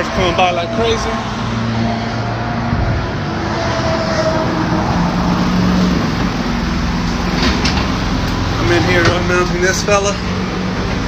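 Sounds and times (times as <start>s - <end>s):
highway traffic rushing past: 0.0s - 11.0s.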